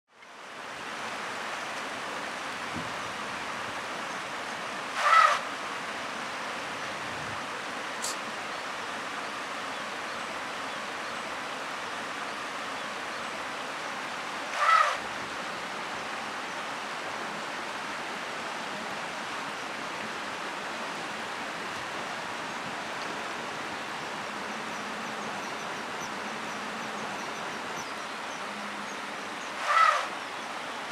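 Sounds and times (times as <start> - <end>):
river rushing: 0.2 - 30.9.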